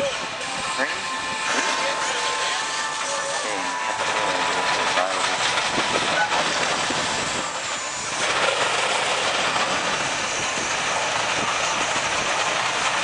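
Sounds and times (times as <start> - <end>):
machinery noise: 0.0 - 13.0
steam hiss: 0.0 - 13.0.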